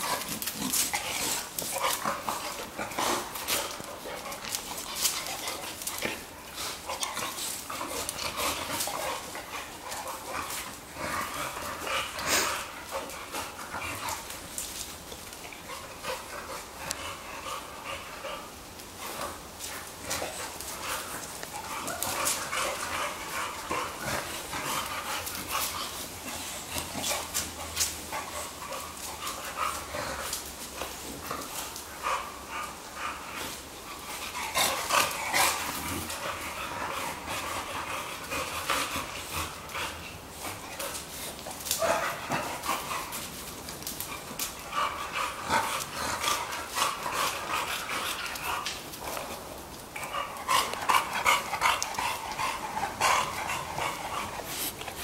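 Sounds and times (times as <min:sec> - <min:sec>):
dogs play-fighting vocalizing: 0:00.0 - 0:55.0.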